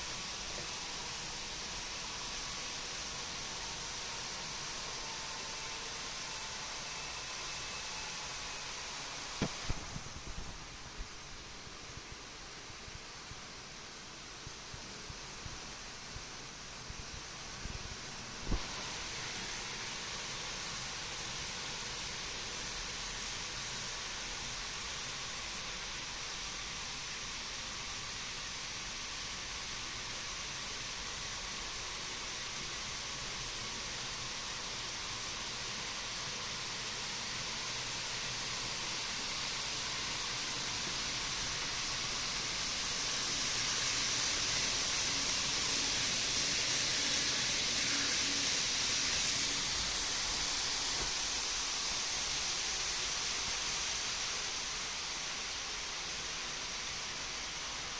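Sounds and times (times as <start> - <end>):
steady hiss: 0.0 - 57.9.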